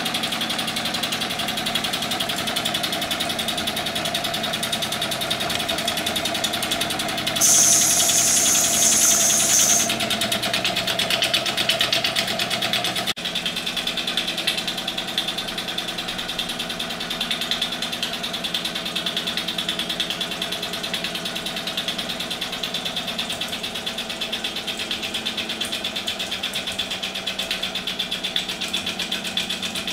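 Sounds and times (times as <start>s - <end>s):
toy steam engine chuffing: 0.6s - 29.9s.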